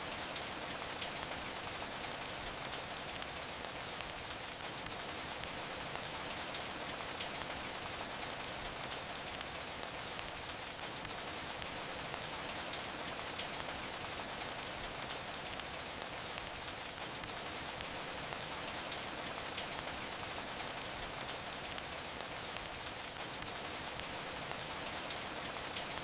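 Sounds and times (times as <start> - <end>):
rain falling: 0.0 - 26.0
wood fire crackling: 0.0 - 26.0.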